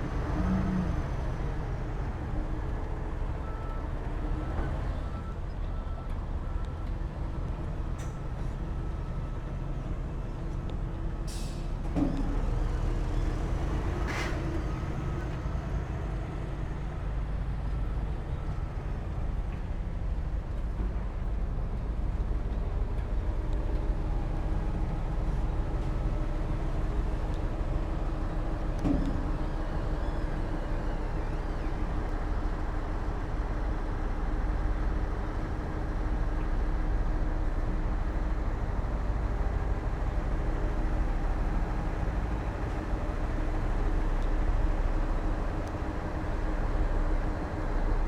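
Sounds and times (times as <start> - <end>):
heavy diesel machinery rumble: 0.0 - 48.0.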